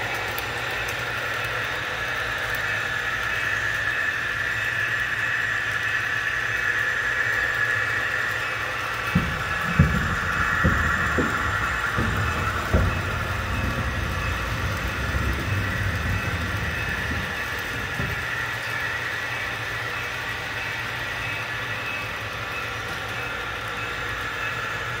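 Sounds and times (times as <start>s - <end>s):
model train motors whining: 0.0s - 25.0s
wheels rumbling on rail: 0.0s - 25.0s.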